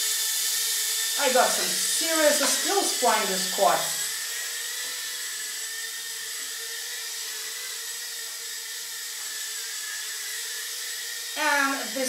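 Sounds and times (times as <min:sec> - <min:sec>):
quadcopter buzzing whine: 0:00.0 - 0:12.0.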